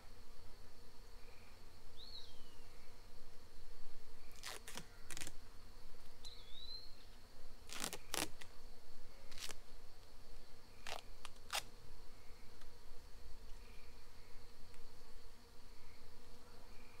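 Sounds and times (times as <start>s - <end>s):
faint insect drone: 0.0s - 17.0s.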